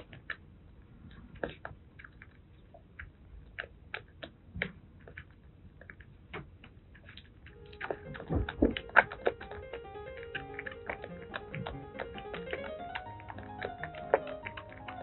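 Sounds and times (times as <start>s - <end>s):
kitten suckling from bottle: 0.0s - 15.0s.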